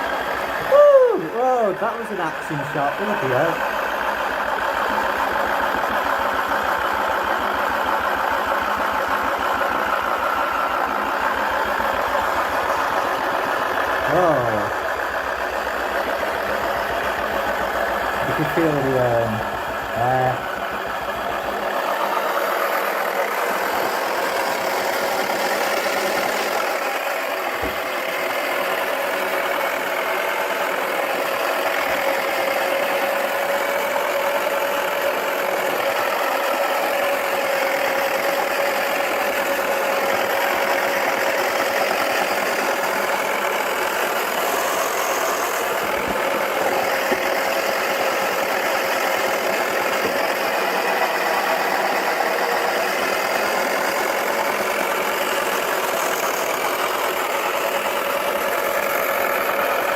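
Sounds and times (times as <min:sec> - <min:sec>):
toy washing machine motor whirring: 0:00.0 - 0:59.9.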